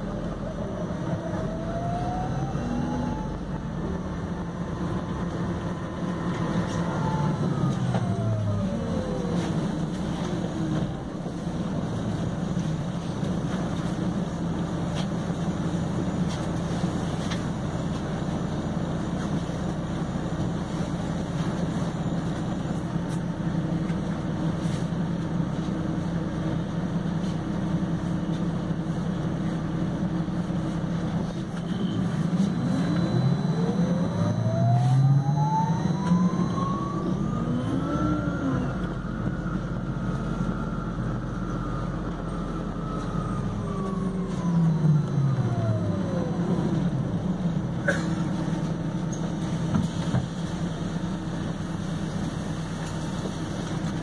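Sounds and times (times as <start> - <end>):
bus low running drone: 0.0 - 54.0.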